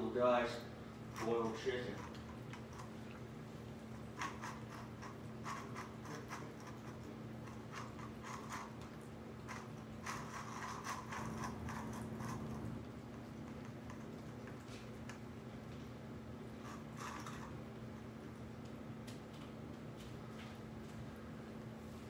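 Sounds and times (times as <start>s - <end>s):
steady low hum: 0.0s - 22.0s
cats chewing and licking: 0.3s - 22.0s.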